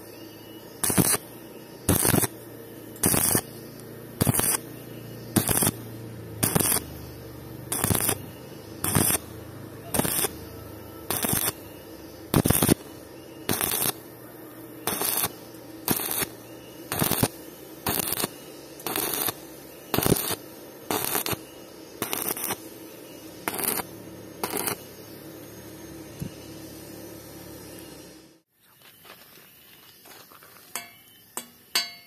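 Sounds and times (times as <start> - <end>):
steady low hum: 0.0 - 32.0
welding arc crackling: 0.6 - 28.4.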